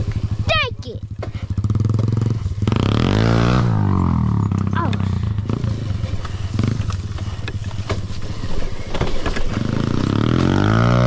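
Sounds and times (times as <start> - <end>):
dirt bike engine idling and revving: 0.0 - 11.0.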